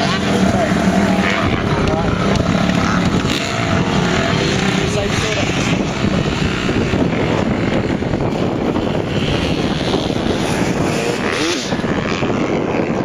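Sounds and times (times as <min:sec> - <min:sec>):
dirt bike engines running: 0:00.0 - 0:13.0
engine revving: 0:00.0 - 0:13.0.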